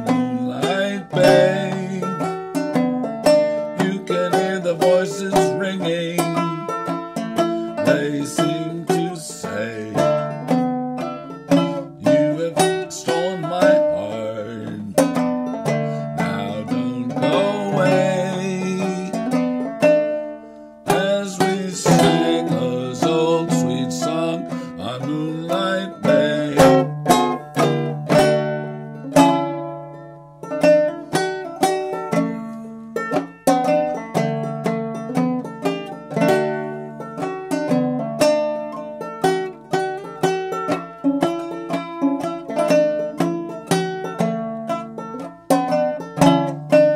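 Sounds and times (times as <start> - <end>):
banjo plucked notes: 0.0 - 46.9.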